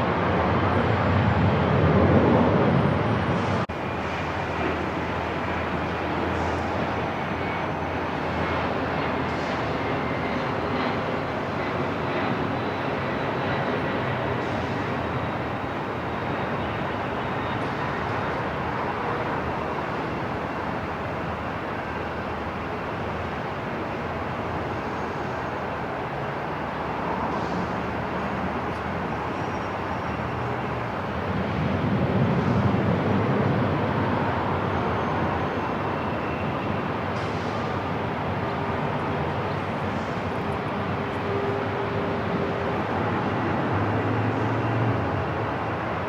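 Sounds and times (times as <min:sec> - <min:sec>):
low airport rumble: 0:00.0 - 0:46.0.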